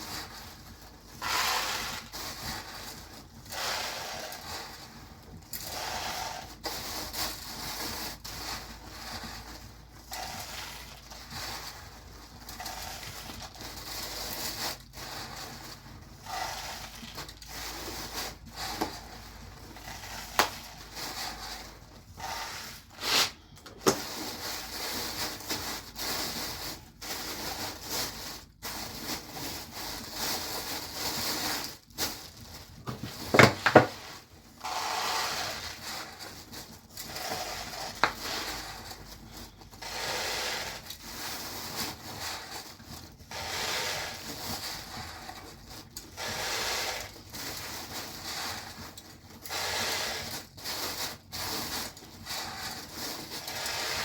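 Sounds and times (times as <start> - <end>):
scraping strokes: 0.0 - 54.0.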